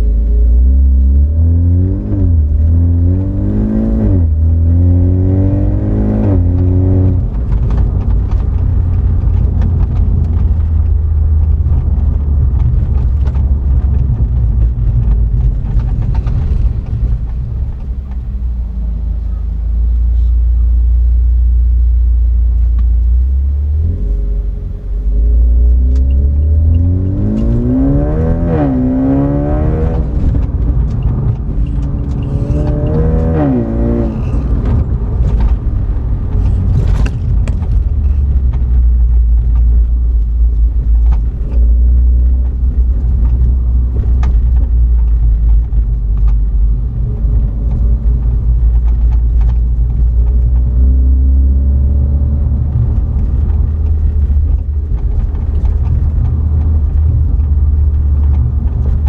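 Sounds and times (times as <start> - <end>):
car exhaust revving: 0.0 - 59.0.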